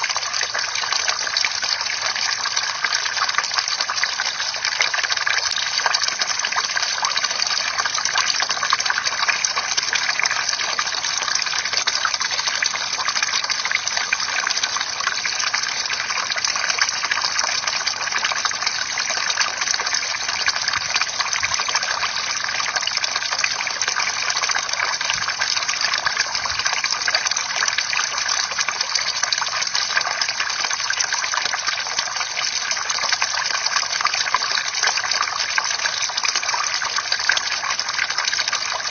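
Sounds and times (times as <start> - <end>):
water pouring and splashing into pool: 0.0 - 38.9.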